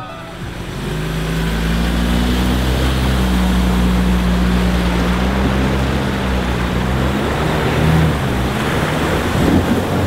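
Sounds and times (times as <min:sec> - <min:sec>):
truck engine running at low revs: 0:00.0 - 0:10.0
water rushing and splashing: 0:00.0 - 0:10.0.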